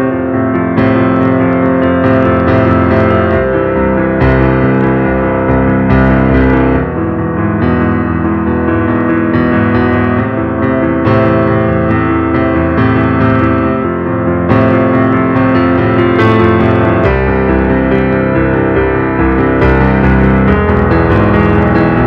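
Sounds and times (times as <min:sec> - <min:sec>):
guitar: 0:00.0 - 0:22.0
piano melody: 0:00.0 - 0:22.0.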